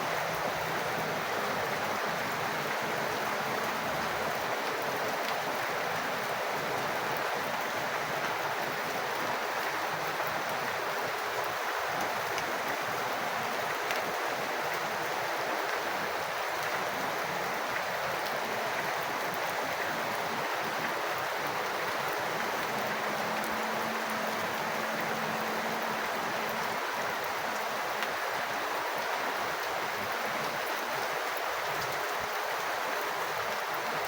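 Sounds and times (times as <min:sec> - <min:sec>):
running rainwater: 0:00.0 - 0:34.0
steady rain falling: 0:00.0 - 0:34.0.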